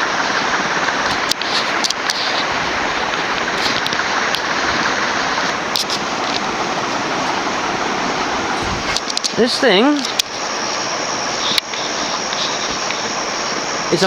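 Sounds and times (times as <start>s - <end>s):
ceiling fan air rush: 0.0s - 14.0s.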